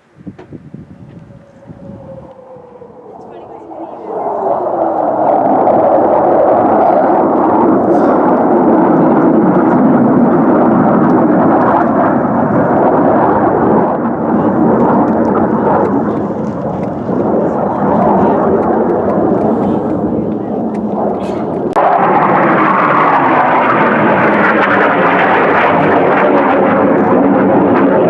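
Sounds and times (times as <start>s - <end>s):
aircraft flying low: 0.2s - 28.0s.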